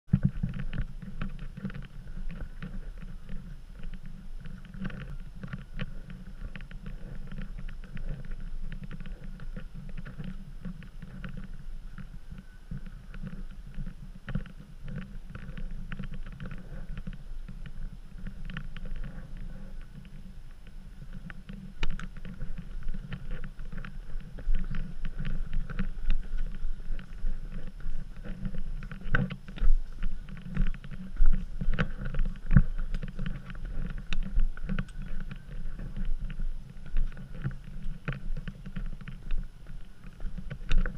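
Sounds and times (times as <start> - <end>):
camera rattling over stone paving: 0.1 - 40.9
wind buffeting microphone: 0.1 - 40.9.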